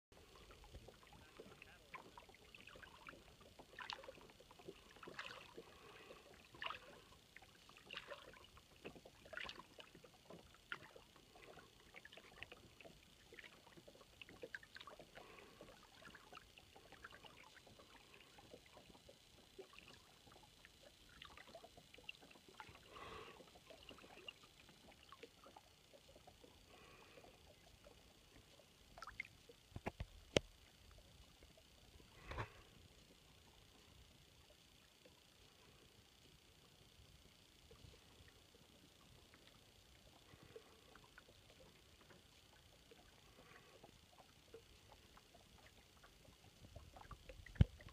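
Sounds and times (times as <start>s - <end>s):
water lapping against hull: 0.1s - 47.9s.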